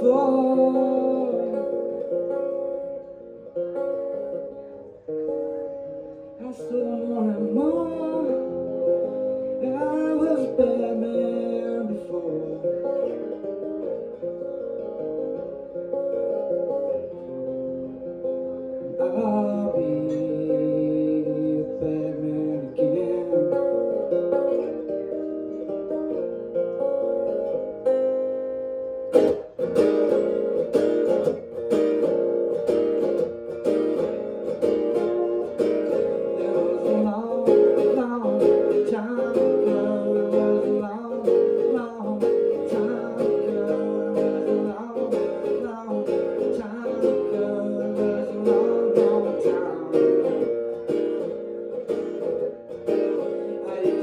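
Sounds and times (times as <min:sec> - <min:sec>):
acoustic guitar strumming blues: 0:00.0 - 0:54.0.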